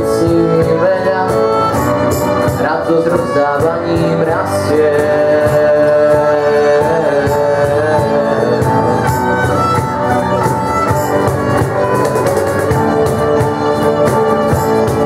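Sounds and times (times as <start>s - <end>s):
cajon drumming: 0.0s - 15.0s
strummed guitar: 0.0s - 15.0s
violin melody: 0.0s - 15.0s.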